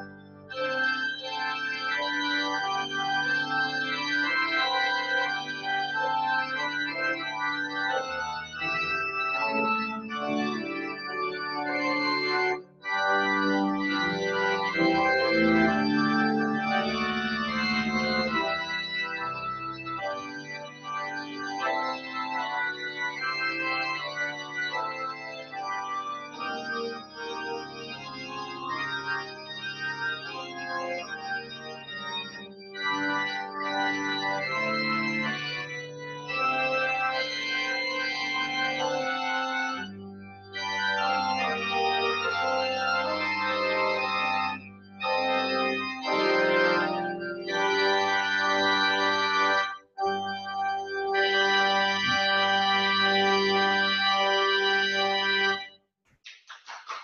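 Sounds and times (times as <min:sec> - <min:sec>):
organ playing slow chords: 0:00.0 - 0:55.7.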